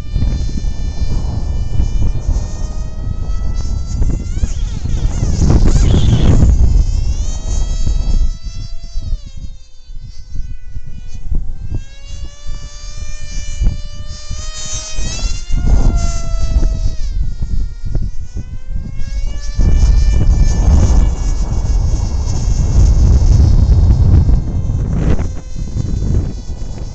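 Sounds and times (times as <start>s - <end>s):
electric motor and propeller whining: 0.0s - 26.9s
wind rumbling on microphone: 0.0s - 26.9s.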